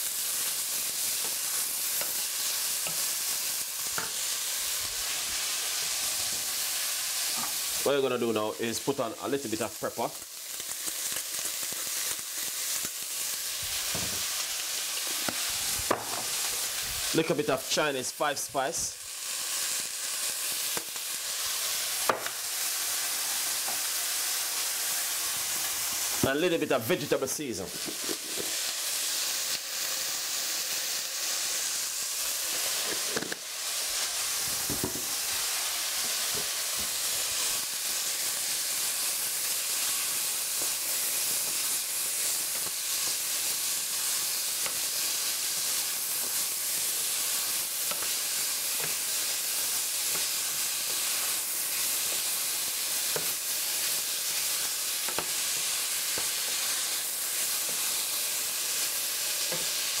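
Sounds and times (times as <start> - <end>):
vegetables sizzling in a pan: 0.0 - 60.0.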